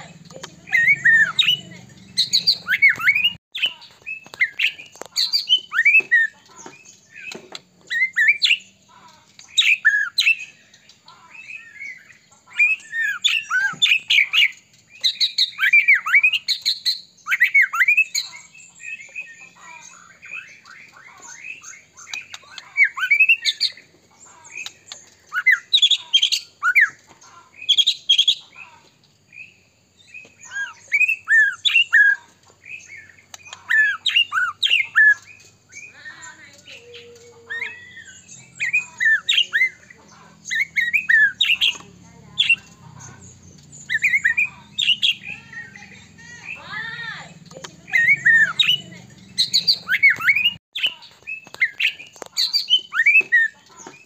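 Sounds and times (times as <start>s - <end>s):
bird singing whistles and chirps: 0.0s - 8.8s, 9.4s - 23.8s, 24.6s - 27.0s, 29.3s - 54.0s.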